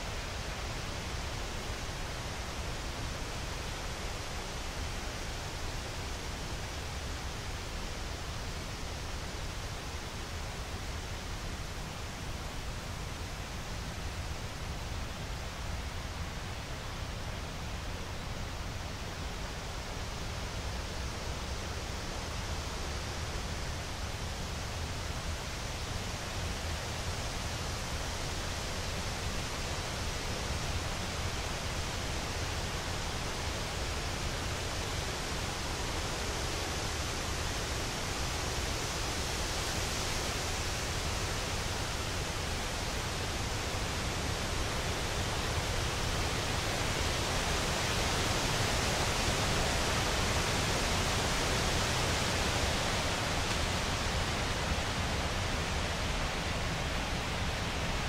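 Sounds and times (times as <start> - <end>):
wind rustling leaves: 0.0 - 58.0.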